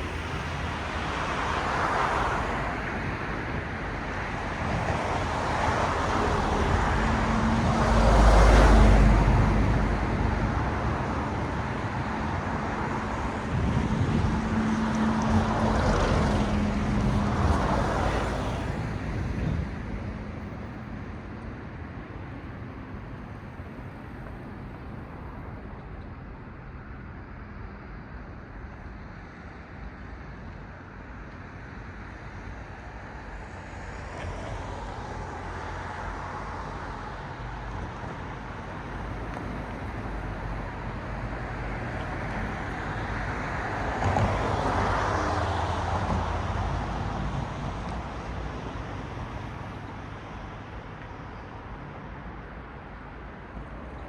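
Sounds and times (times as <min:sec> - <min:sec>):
cars passing: 0:00.0 - 0:26.4, 0:29.7 - 0:54.0
background traffic: 0:00.0 - 0:54.0.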